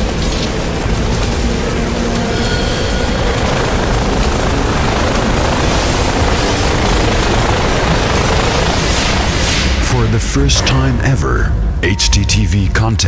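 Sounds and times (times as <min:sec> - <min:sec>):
deep rushing rumble: 0:00.0 - 0:13.0.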